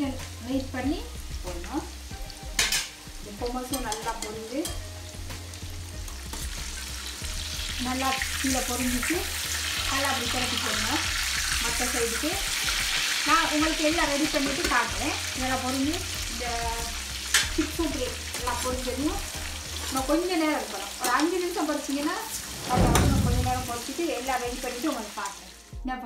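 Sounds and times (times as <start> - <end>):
chicken sizzling in hot oil: 0.0 - 25.8.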